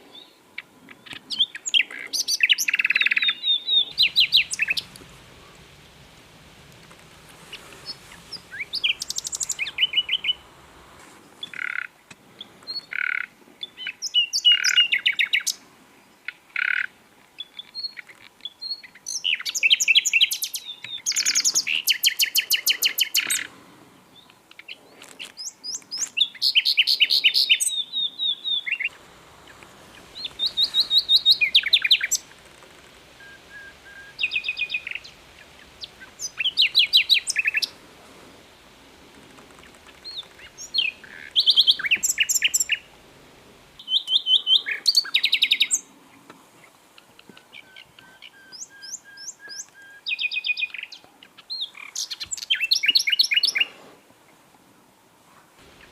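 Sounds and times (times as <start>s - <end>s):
nightingale singing: 0.1s - 15.6s, 16.2s - 23.5s, 24.1s - 45.9s, 46.9s - 53.7s.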